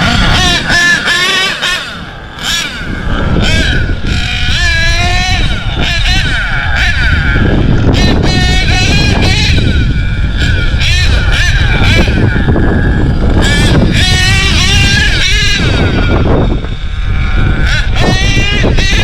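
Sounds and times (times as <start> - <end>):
rc truck engine whining: 0.0 - 19.0
wind rumble on microphone: 0.0 - 19.0.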